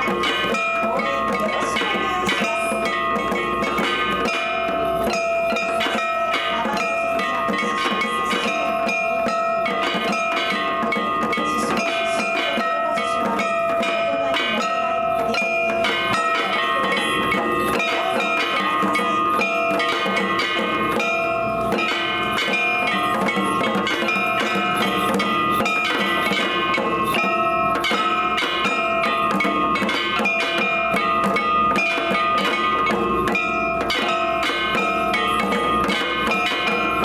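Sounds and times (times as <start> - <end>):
drums in steady rhythm: 0.0 - 37.0
ringing metallic bell tones: 0.0 - 37.0.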